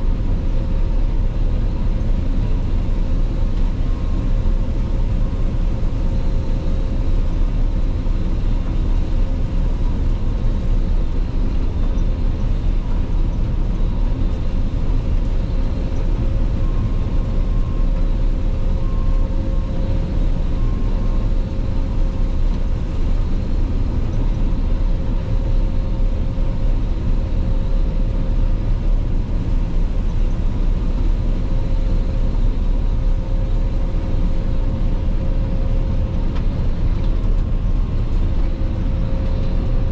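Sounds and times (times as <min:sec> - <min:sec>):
combine harvester rumble: 0:00.0 - 0:39.9.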